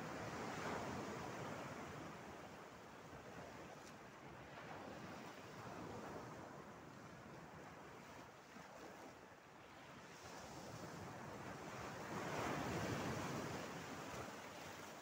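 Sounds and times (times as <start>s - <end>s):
light wind: 0.0s - 15.0s
small waves washing ashore: 0.0s - 15.0s.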